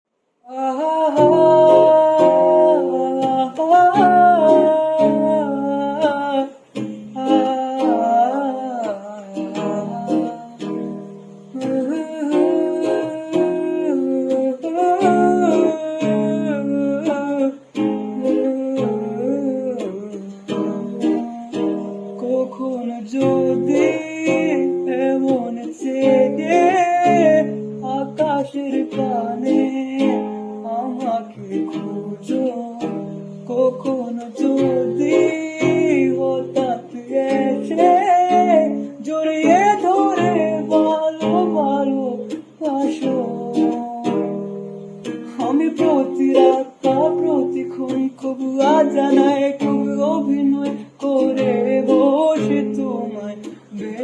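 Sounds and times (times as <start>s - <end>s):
plucked acoustic guitar: 0.4s - 54.0s
person humming a melody: 0.5s - 54.0s.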